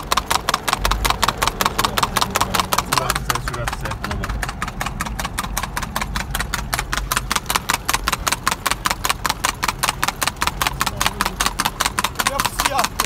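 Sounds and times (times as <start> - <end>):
car engine hum: 0.0 - 13.0
horse hooves on road: 0.0 - 13.0.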